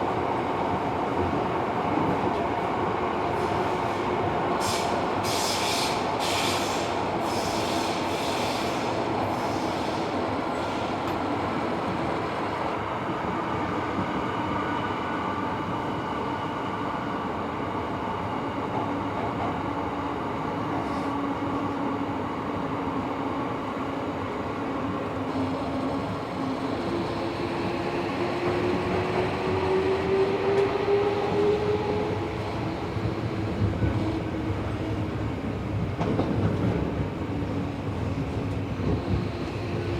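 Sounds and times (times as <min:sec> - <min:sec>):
train wheels rumbling on rail: 0:00.0 - 0:23.1, 0:24.5 - 0:39.9.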